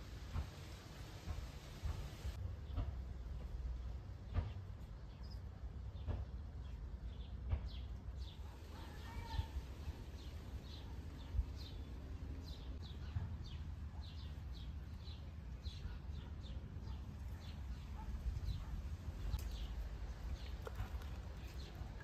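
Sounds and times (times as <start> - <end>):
low outdoor rumble: 0.0 - 22.0
small birds chirping: 1.9 - 22.0.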